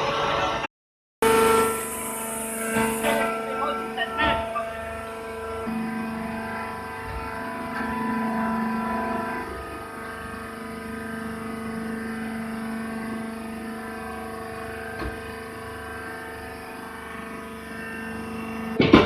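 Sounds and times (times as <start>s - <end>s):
hydraulic baler motor humming: 1.2s - 19.0s.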